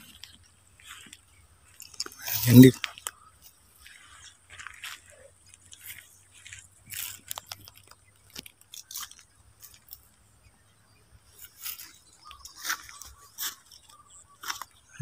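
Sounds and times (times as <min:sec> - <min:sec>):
dry vines and leaves rustling: 0:00.0 - 0:10.6, 0:11.2 - 0:15.0.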